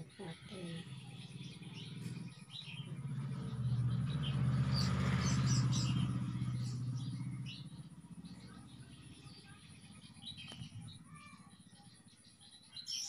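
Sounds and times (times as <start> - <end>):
vehicle engine hum passing: 0.0 - 12.2
birds chirping: 0.0 - 13.0.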